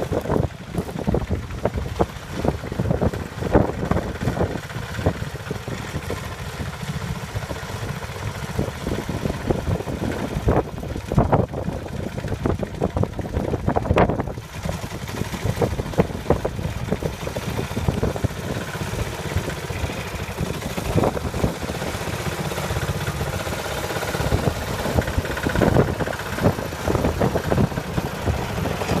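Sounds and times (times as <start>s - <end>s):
tractor engine running: 0.0s - 29.0s
wind buffeting the microphone: 0.0s - 29.0s.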